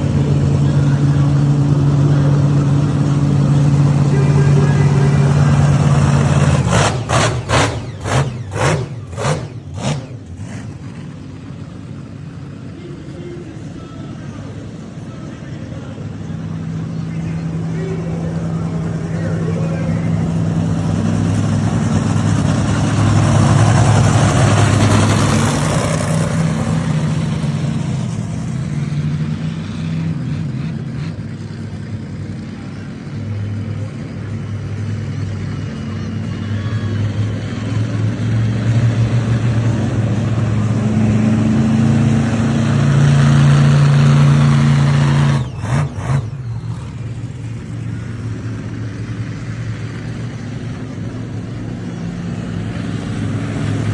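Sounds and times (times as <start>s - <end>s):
monster truck engine revving: 0.0s - 53.9s.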